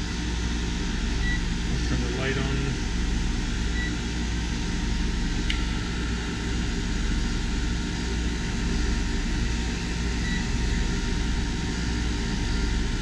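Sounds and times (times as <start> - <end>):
heat pump whirring: 0.0 - 13.0.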